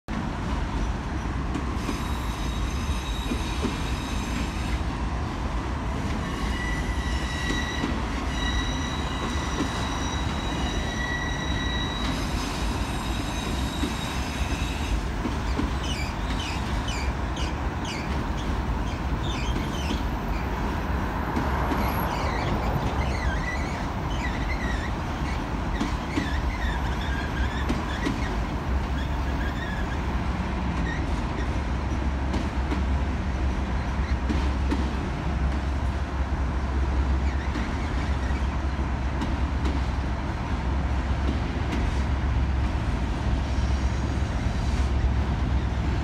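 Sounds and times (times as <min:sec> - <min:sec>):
train rumble: 0:00.1 - 0:46.0
train wheels squealing on rails: 0:00.4 - 0:05.2, 0:05.8 - 0:35.9, 0:36.8 - 0:40.0, 0:41.2 - 0:46.0.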